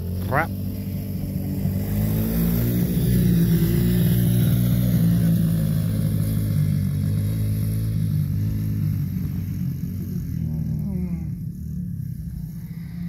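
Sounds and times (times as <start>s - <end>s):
atv engine running: 0.0s - 13.0s
mini dirt bike engine: 0.0s - 13.0s.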